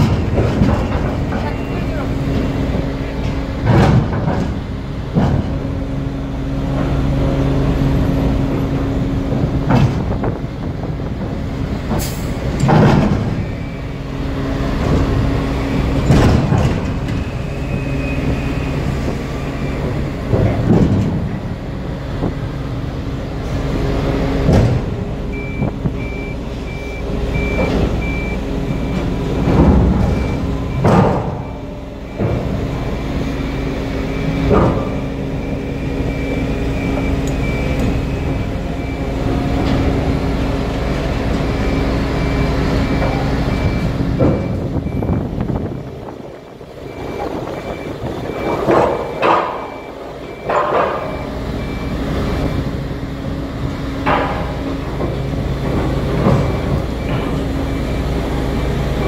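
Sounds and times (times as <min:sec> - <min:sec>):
heavy clunks and bangs of metal: 0:00.0 - 0:59.0.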